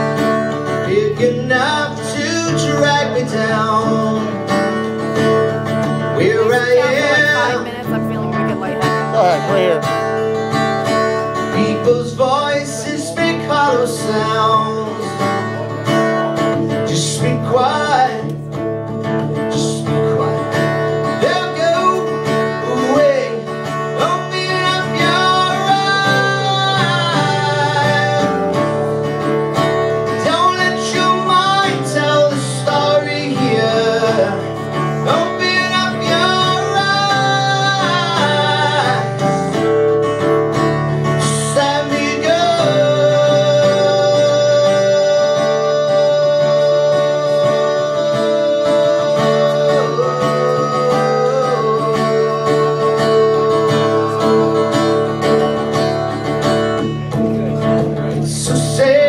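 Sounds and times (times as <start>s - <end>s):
man singing: 0.0s - 10.2s, 11.3s - 29.0s, 29.9s - 39.8s, 41.0s - 56.3s, 57.4s - 59.0s
strummed acoustic guitar: 0.0s - 59.0s.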